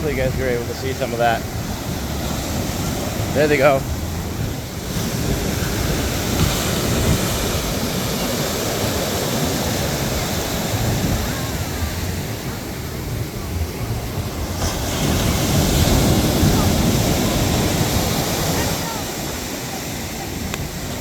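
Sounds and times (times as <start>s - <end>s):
ocean surf washing on beach: 0.0s - 21.0s
wind buffeting microphone: 0.0s - 21.0s.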